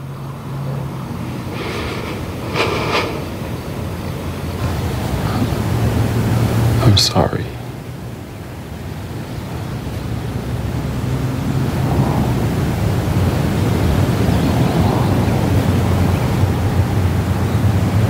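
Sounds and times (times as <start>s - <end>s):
low steady rumbling: 0.0s - 18.0s.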